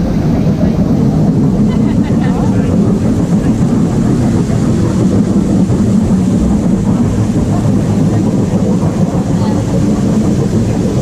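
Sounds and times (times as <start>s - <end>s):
loud low rumble on raft ride: 0.0s - 11.0s.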